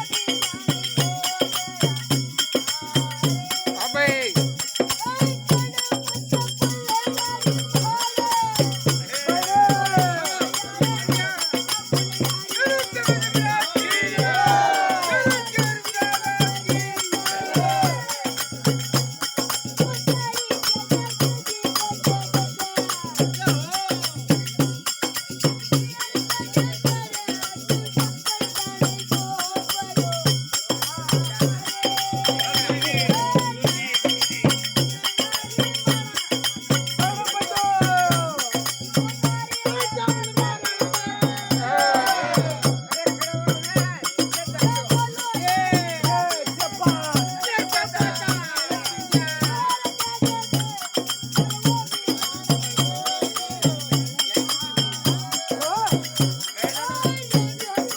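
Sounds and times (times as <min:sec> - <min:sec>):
boy singing: 0:00.0 - 0:57.9
jingling percussion: 0:00.0 - 0:57.9
steady drum beat: 0:00.0 - 0:57.9.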